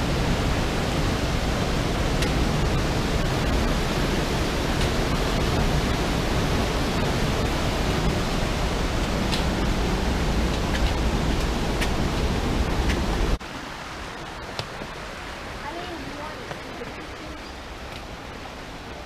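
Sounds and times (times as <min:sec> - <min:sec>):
creek water rushing over cascade: 0:00.0 - 0:19.0.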